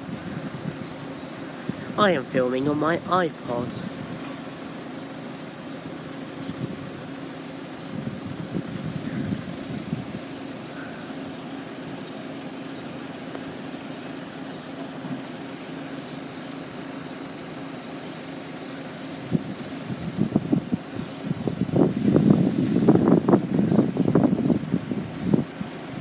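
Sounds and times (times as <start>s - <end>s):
vehicle engine idling hum: 0.0s - 26.0s.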